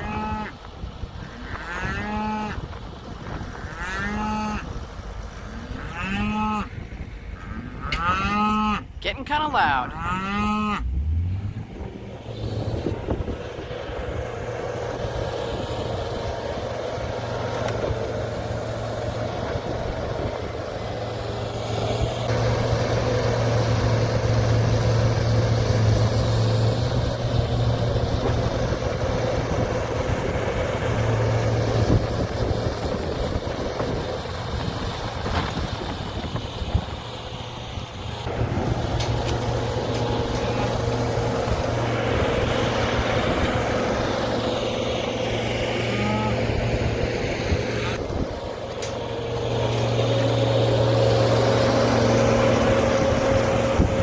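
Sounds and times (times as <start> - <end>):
farm vehicle engine humming: 0.0 - 54.0.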